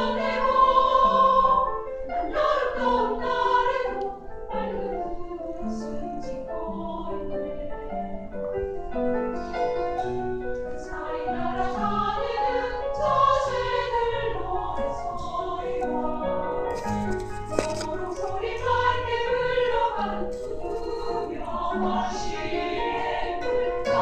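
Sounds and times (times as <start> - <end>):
women's choir singing: 0.0 - 8.3, 9.4 - 24.0.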